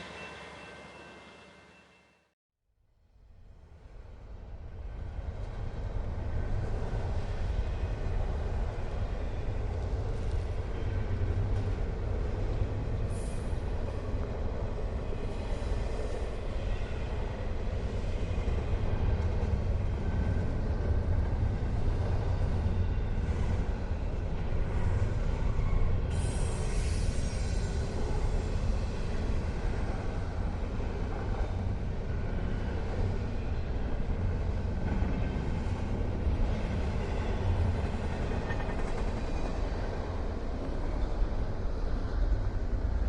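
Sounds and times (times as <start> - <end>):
train rumbling on rails: 0.0 - 2.1, 3.2 - 43.0.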